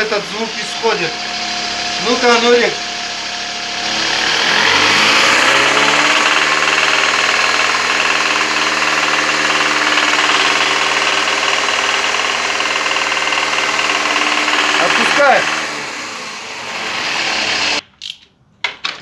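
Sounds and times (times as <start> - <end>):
car engine revving: 0.0 - 17.8
engine knocking: 0.0 - 17.8.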